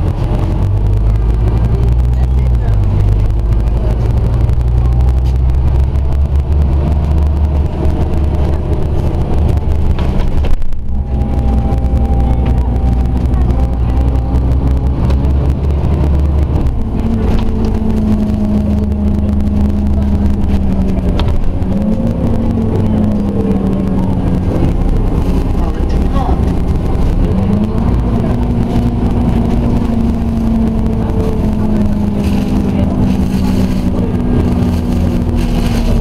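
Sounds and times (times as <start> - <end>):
bus engine rumble: 0.0 - 36.0
steady drivetrain whine: 0.0 - 36.0.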